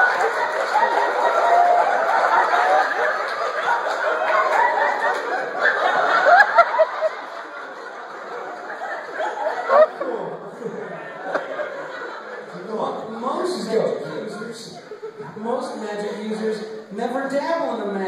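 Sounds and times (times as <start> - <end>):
audience laughing: 0.0 - 16.2.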